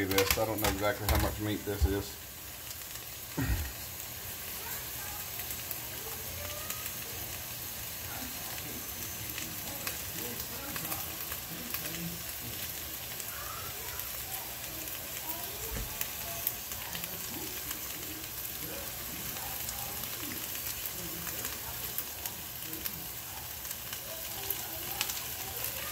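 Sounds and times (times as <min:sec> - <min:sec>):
potatoes sizzling in oil: 0:00.0 - 0:25.9.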